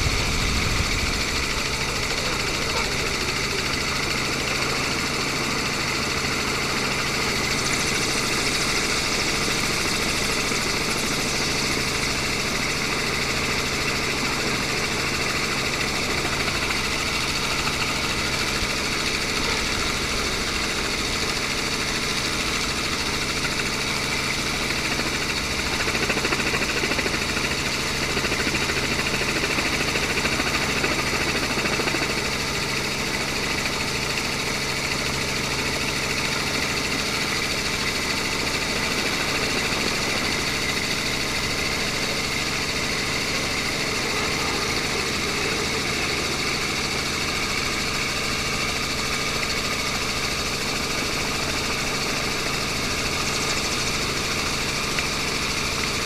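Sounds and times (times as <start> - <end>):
engine hum with hiss: 0.0 - 56.0.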